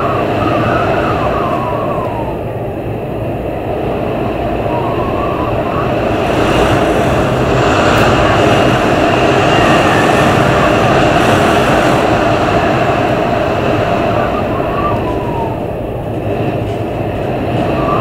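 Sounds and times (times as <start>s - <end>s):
faint wind whistling: 0.0s - 18.0s
strong wind gusts: 0.0s - 18.0s.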